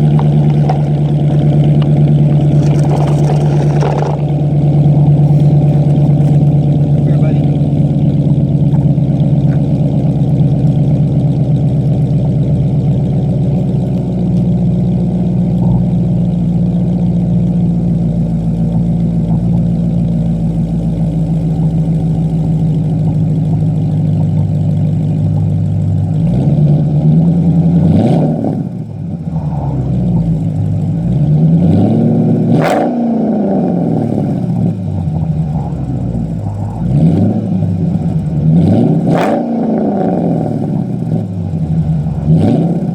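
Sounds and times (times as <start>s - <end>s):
car engine revving: 0.0s - 42.9s
exhaust cracks: 0.0s - 42.9s.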